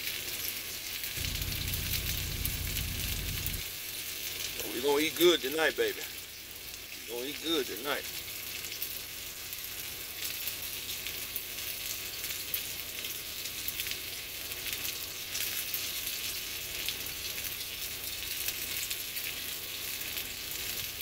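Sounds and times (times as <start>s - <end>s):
steaks sizzling in a pan: 0.0s - 21.0s.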